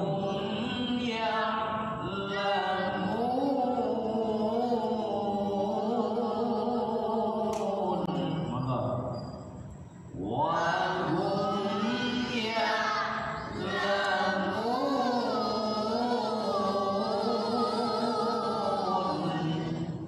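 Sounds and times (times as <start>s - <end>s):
melodic chanted recitation: 0.0s - 20.0s.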